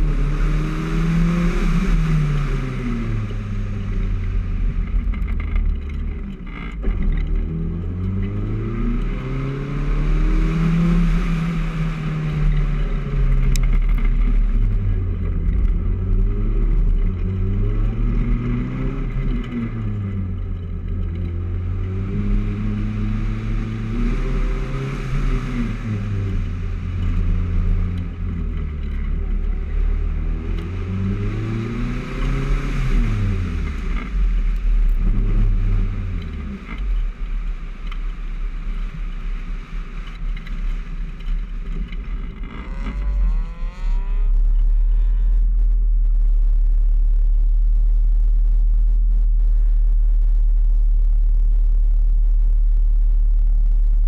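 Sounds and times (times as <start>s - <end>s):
steady low engine rumble: 0.0s - 54.0s.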